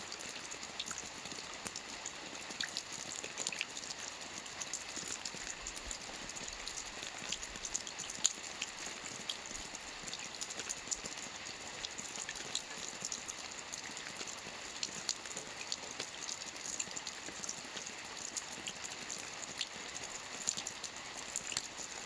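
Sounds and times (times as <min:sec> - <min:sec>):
rain pattering on a roof: 0:00.0 - 0:22.0.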